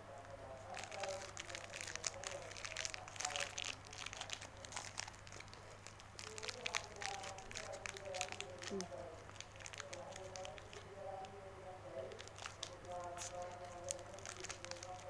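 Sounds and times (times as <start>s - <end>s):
wrapper crinkling: 0.6s - 11.3s, 12.1s - 15.0s.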